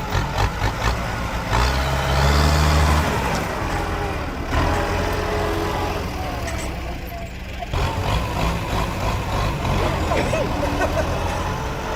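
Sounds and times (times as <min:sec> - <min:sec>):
tractor engine under load: 0:00.0 - 0:11.9.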